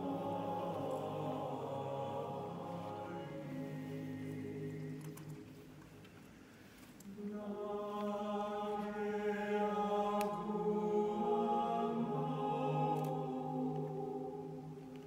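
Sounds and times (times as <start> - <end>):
choir singing a cappella: 0.0 - 5.6, 7.0 - 15.0.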